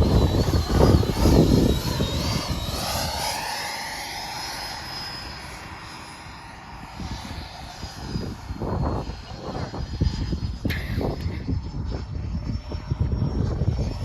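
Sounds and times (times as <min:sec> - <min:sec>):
wind buffeting microphone: 0:00.0 - 0:04.0, 0:06.6 - 0:14.0
model airplane motor whining: 0:00.0 - 0:14.0.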